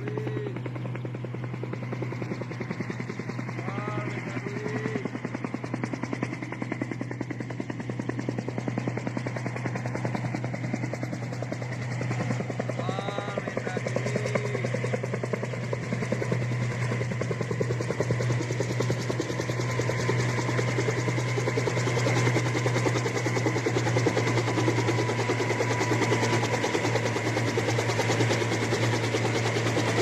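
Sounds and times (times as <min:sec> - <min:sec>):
helicopter engine drone: 0:00.0 - 0:30.0
helicopter rotor chop: 0:00.0 - 0:30.0.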